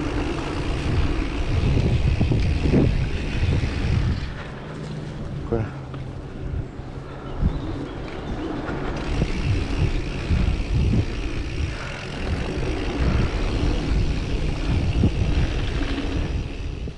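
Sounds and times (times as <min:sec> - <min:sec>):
bike tyre noise on dirt: 0:00.0 - 0:16.9
wind rumble on microphone: 0:00.0 - 0:16.9.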